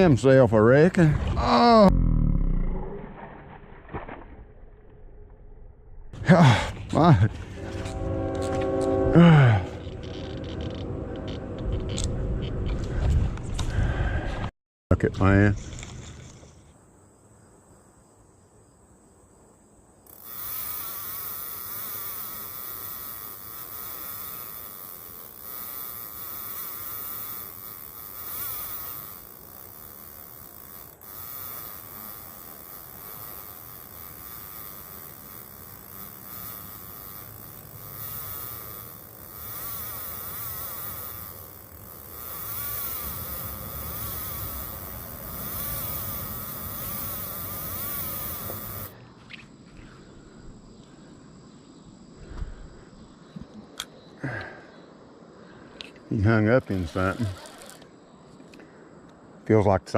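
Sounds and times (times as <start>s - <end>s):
insects buzzing: 6.2s - 12.1s, 15.2s - 59.9s.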